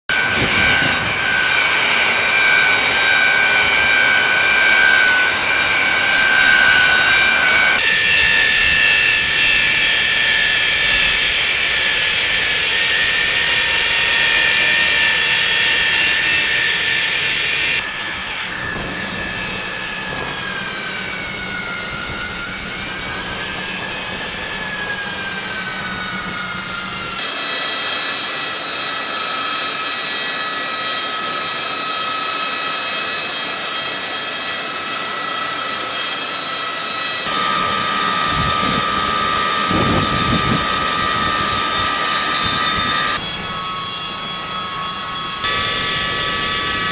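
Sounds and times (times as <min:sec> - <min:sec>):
jet engine whine: 0:00.1 - 0:46.9.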